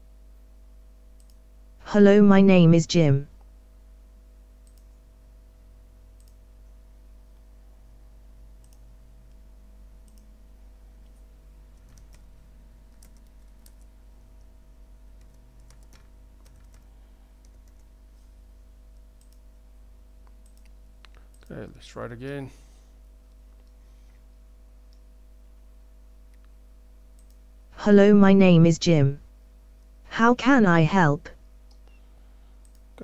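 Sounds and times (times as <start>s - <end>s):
low steady hum: 0.0s - 21.6s, 23.0s - 33.0s.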